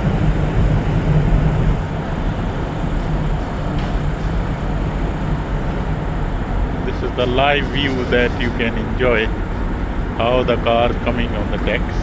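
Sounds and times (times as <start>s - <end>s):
cars boarding ferry deck: 0.0s - 12.0s
ferry machinery humming: 0.0s - 12.0s.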